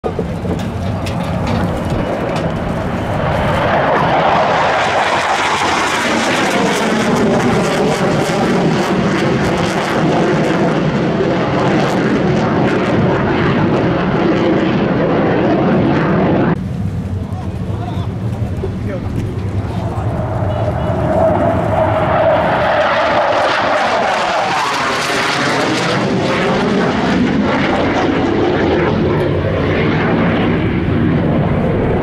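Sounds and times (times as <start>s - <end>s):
jet aircraft flying overhead: 0.0s - 32.0s.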